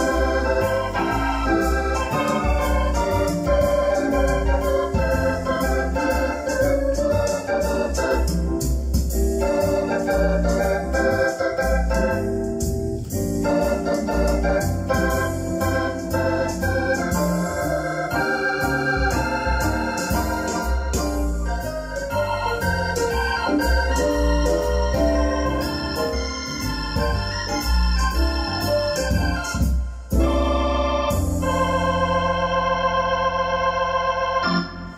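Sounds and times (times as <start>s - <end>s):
electronic organ chords and melody: 0.0s - 34.9s.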